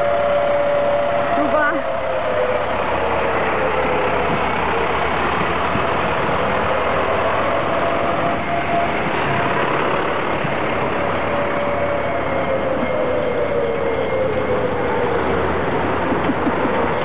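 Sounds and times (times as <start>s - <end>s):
tractor diesel engines driving past: 0.0s - 17.0s.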